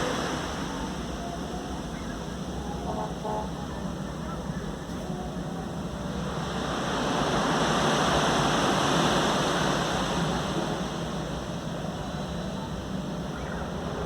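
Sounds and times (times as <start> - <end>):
ocean wave breaking: 0.0 - 14.0.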